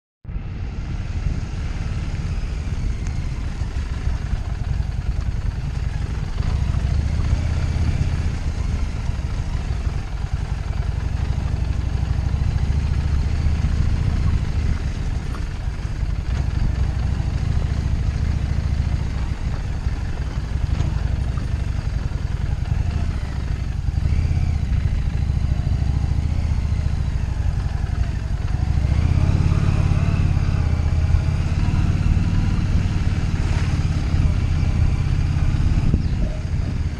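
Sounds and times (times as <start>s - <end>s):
motorcycle engine rumbling: 0.3s - 36.9s.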